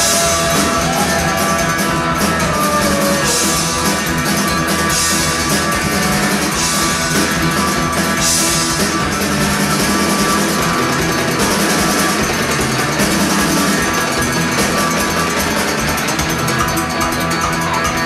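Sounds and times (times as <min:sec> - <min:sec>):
drum kit with cymbals: 0:00.0 - 0:18.0
electric guitars strumming: 0:00.0 - 0:18.0.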